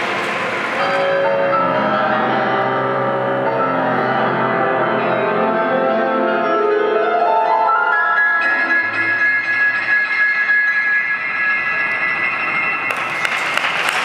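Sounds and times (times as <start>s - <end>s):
classical piano music over speakers: 0.0s - 14.0s.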